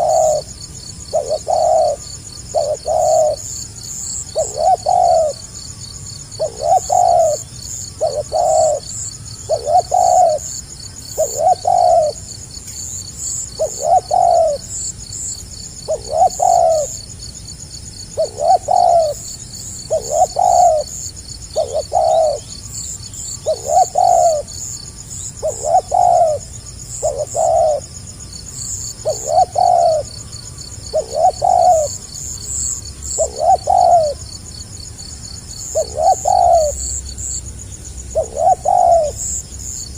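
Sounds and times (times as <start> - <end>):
dove cooing: 0.0 - 17.1, 18.1 - 24.8, 25.4 - 28.0, 28.6 - 30.2, 30.8 - 34.4, 35.5 - 37.4, 38.0 - 39.9.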